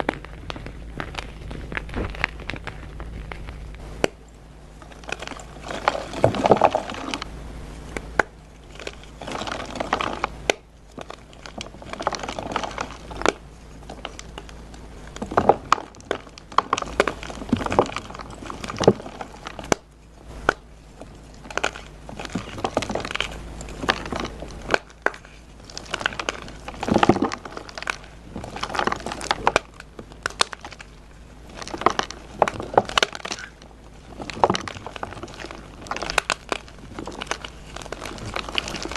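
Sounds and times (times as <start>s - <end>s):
chalk crunching and cracking: 0.0s - 38.9s.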